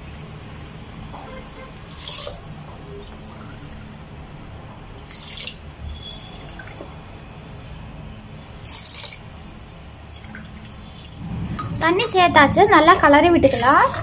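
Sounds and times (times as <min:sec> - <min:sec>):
water pouring and splashing: 0:01.0 - 0:07.0, 0:08.1 - 0:14.0.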